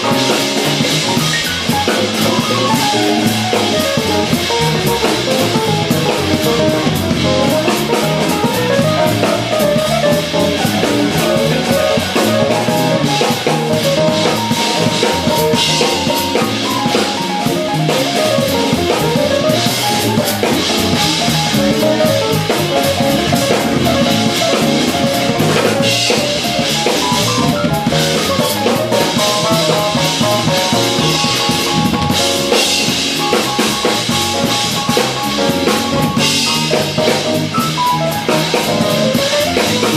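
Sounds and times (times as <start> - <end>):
jazz fusion band playing: 0.0 - 39.9.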